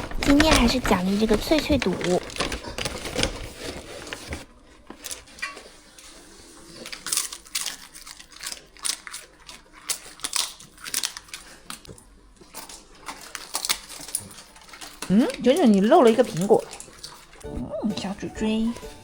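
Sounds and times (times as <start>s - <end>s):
dogs crunching dried treats: 0.0s - 18.1s.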